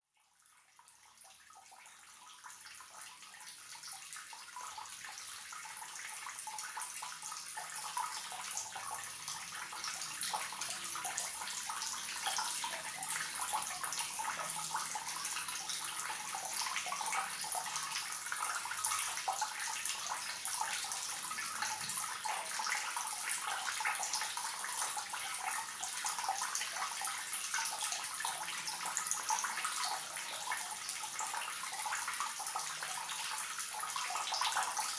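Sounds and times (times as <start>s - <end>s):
water trickling from a tap: 0.2s - 34.9s.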